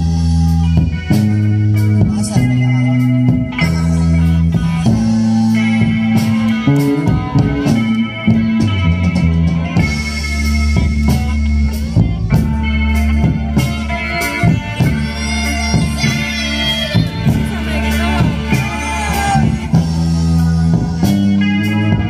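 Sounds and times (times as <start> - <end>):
bass guitar: 0.0 - 22.0
drum kit: 0.0 - 22.0
electric guitars: 0.0 - 22.0.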